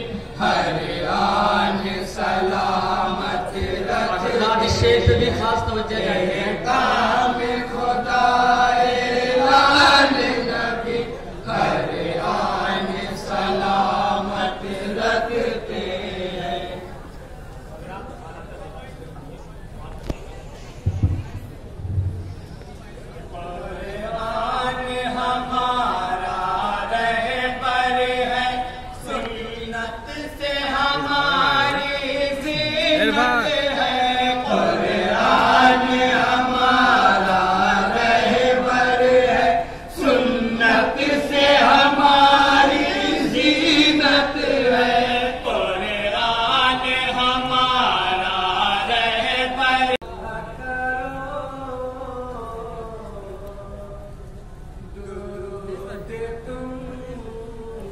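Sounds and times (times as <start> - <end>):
men chanting over loudspeaker: 0.0 - 17.0, 23.3 - 53.2.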